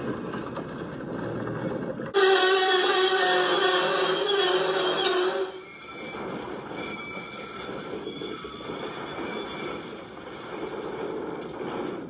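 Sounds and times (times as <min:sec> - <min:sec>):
train rolling noise: 0:00.0 - 0:12.0.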